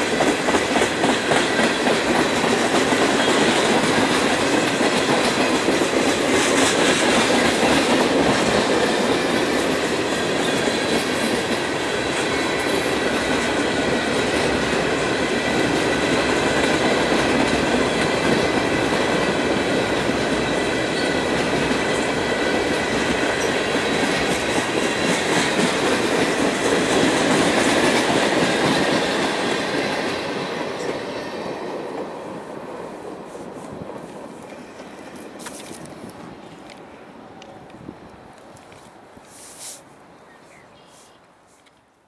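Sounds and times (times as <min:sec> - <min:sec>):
freight train rolling past: 0:00.0 - 0:39.2
high whine of wheels on rails: 0:00.0 - 0:39.3.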